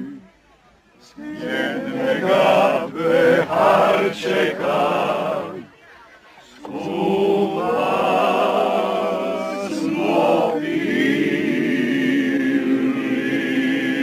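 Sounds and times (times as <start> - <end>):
group singing together: 1.0 - 5.7, 6.4 - 14.0.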